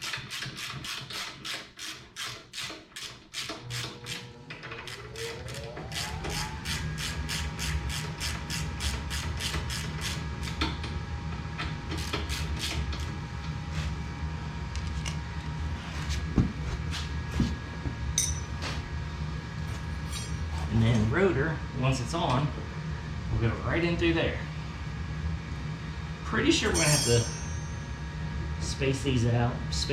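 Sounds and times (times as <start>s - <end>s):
steady low hum: 4.9s - 29.9s.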